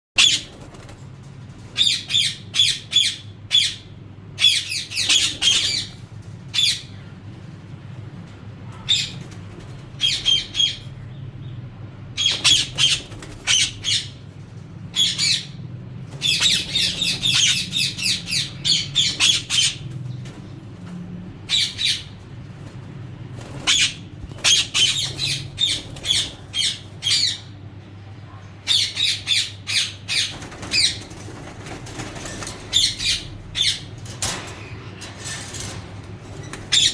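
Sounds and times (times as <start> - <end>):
birds squawking: 0.2 - 1.0, 1.6 - 7.2, 8.7 - 20.6, 21.4 - 22.5, 23.2 - 27.7, 28.6 - 36.9
steady low hum: 0.2 - 36.9.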